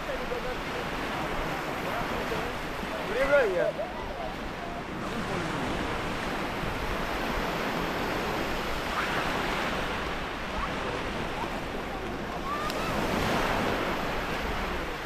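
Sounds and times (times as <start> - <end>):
surf washing on stony shore: 0.0 - 15.0.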